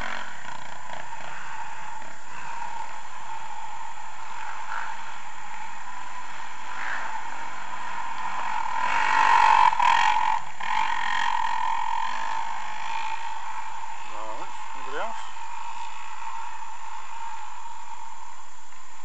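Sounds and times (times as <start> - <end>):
dirt bike engine passing: 0.0 - 19.0
steady high hum: 0.0 - 19.0.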